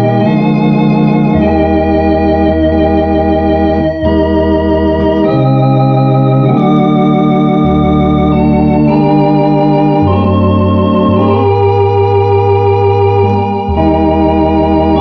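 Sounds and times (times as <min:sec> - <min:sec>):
electronic organ playing a hymn: 0:00.0 - 0:15.0.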